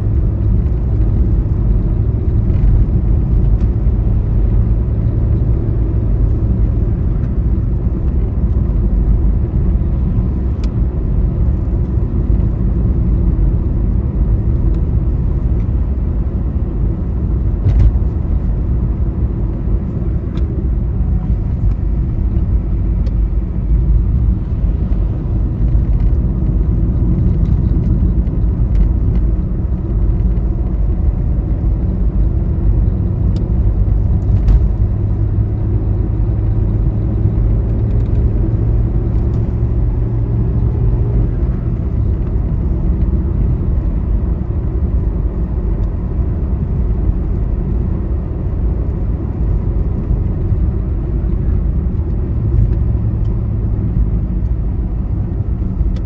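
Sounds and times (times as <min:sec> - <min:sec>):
low hum: 0:00.0 - 0:47.8
vehicle rumbling on highway: 0:00.0 - 0:56.0.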